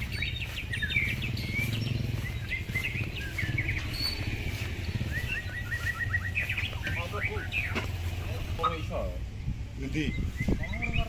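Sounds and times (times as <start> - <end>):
bird singing whistled notes: 0.0 - 9.0, 10.0 - 11.0
steady low rumble: 0.0 - 10.6.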